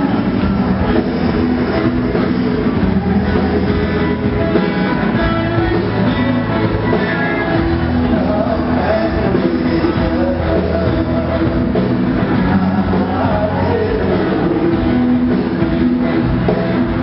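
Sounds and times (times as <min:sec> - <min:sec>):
live band with bass and guitar: 0:00.0 - 0:17.0.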